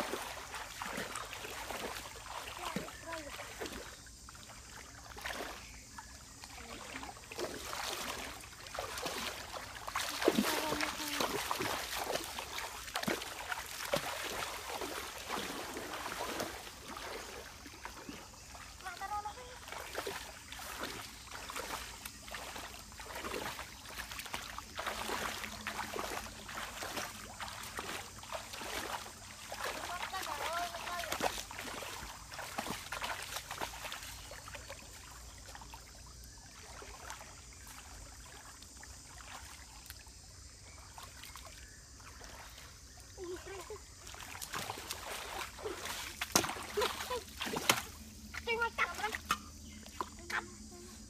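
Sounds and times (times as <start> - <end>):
stream water splashing around legs: 0.0 - 51.0.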